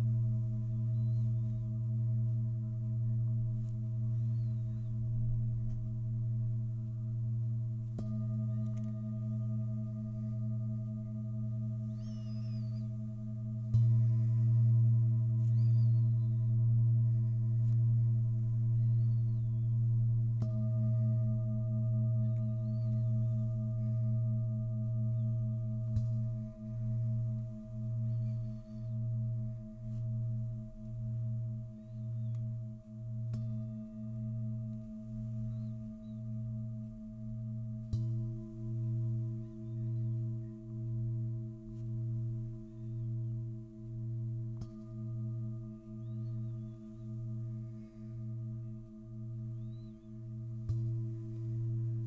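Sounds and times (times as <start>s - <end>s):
singing bowls humming: 0.0s - 52.0s.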